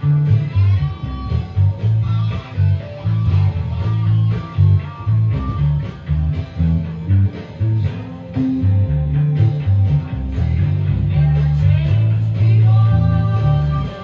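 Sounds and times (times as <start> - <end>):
electric bass guitar playing: 0.0 - 14.0
rock band: 0.0 - 14.0.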